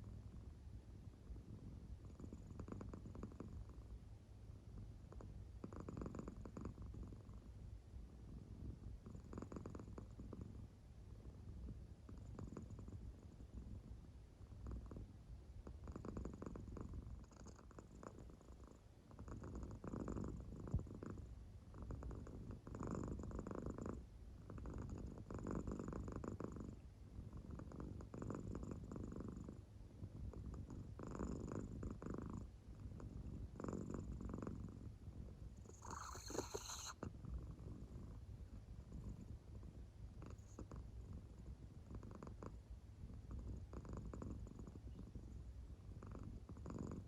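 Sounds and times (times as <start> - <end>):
cat purring: 0.0 - 4.0, 4.6 - 47.0.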